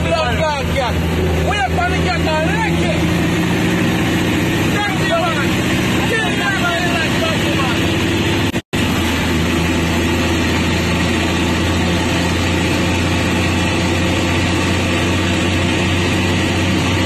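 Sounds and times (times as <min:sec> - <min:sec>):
diesel truck engines droning: 0:00.0 - 0:17.0.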